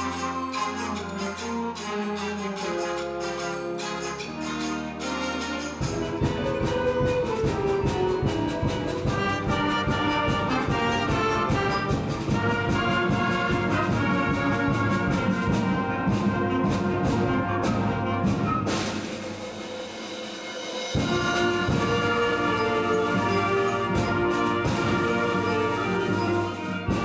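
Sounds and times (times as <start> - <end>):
concert band playing: 0.0 - 27.0.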